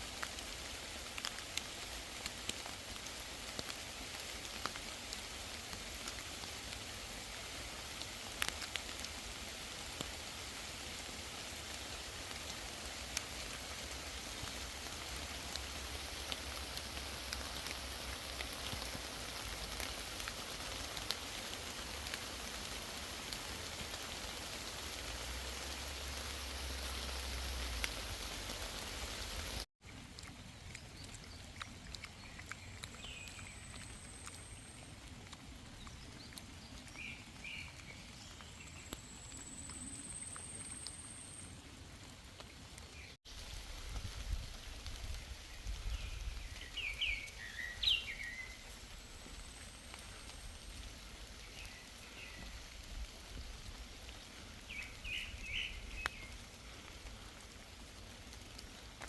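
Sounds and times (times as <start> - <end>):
rain on foliage: 0.0 - 59.0.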